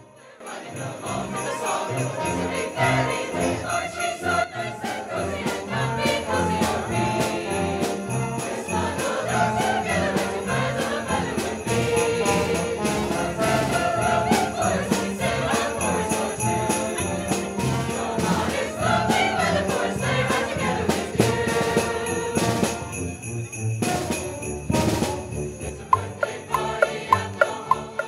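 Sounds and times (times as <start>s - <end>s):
holiday music melody: 0.0s - 28.0s
sleigh bells jingling: 0.0s - 28.0s.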